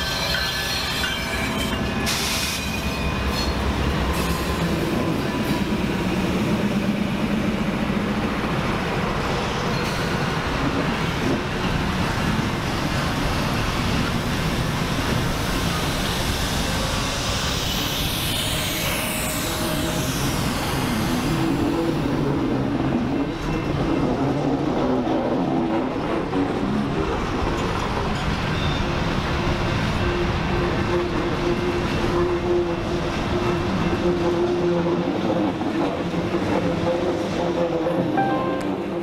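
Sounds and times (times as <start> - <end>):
train cars rolling on rails: 0.0 - 39.0.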